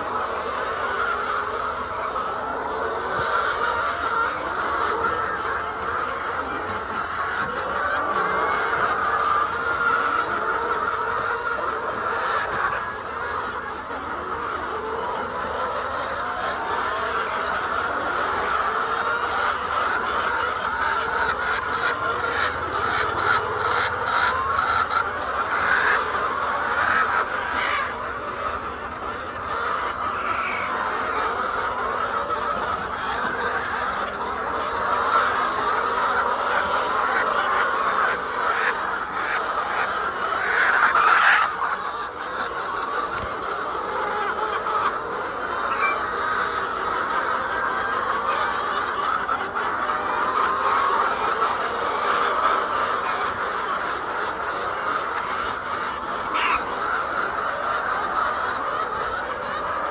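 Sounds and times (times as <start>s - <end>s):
hens clucking: 0.0s - 59.9s.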